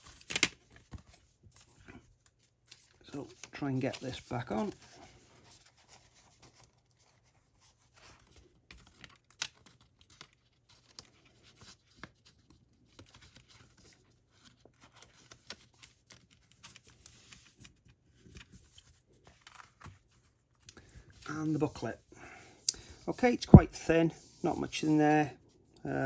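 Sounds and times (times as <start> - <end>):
paper and card rustling: 0.0 - 21.9.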